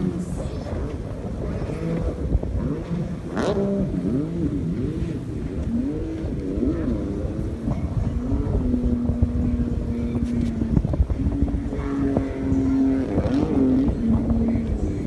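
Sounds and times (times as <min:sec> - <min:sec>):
jet ski engines revving: 0:00.0 - 0:15.0.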